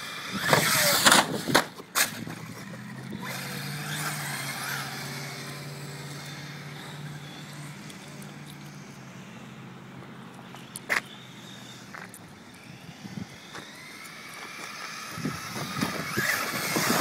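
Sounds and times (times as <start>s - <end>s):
toy car electric motor whining: 0.0s - 9.3s, 10.4s - 17.0s.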